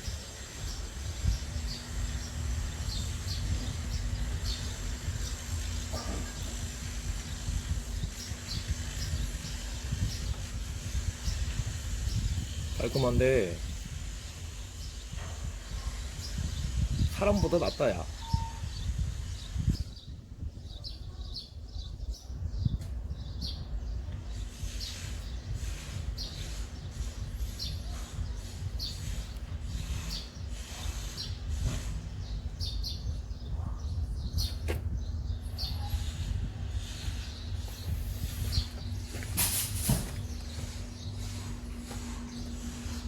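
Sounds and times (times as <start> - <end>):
steady low rumble: 0.0 - 17.3, 18.8 - 43.0
small birds chirping: 0.0 - 43.0.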